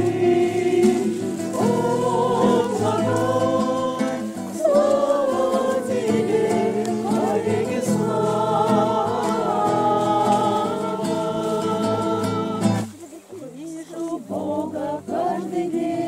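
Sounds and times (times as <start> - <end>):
group of people singing: 0.0 - 12.9, 13.8 - 16.0
strummed acoustic guitar: 0.0 - 13.2.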